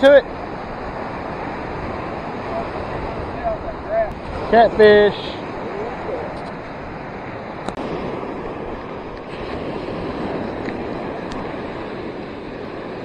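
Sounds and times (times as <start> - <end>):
surf washing onto beach: 0.0 - 13.0
wind noise on microphone: 0.0 - 13.0.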